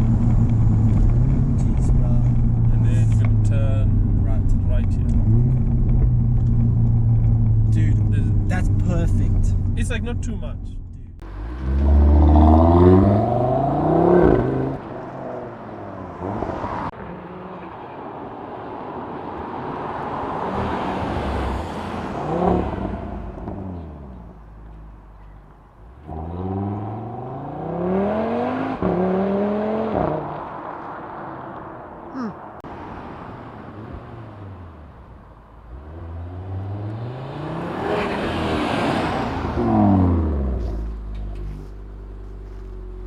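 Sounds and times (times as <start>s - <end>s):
car engine accelerating: 0.0s - 32.3s, 33.1s - 43.0s.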